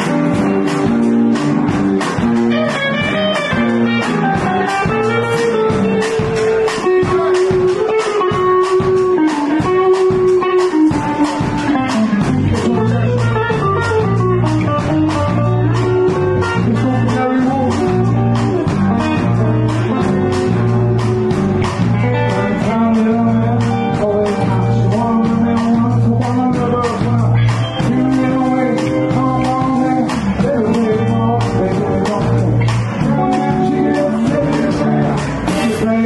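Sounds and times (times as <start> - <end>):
drums: 0.0 - 36.0
electric guitar riff: 0.0 - 36.0
repeating bass line: 0.0 - 36.0.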